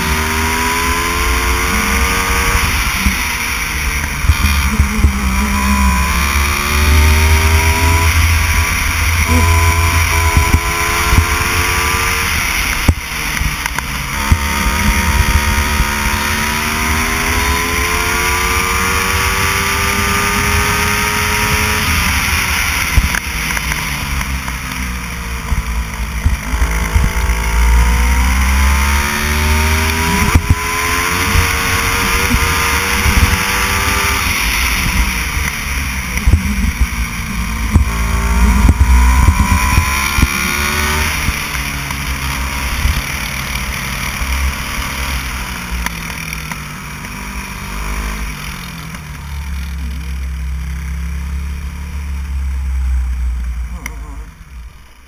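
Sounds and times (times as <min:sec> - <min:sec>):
racing kart engine: 0:00.0 - 0:55.0.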